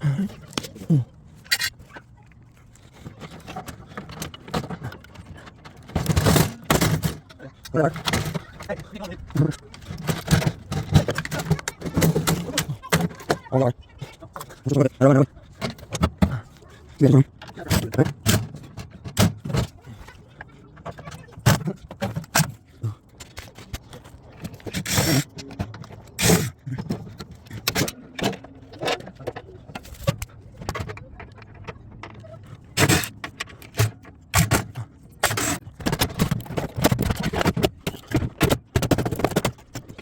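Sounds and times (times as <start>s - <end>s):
metal parts clanking and scraping: 0.0s - 40.0s.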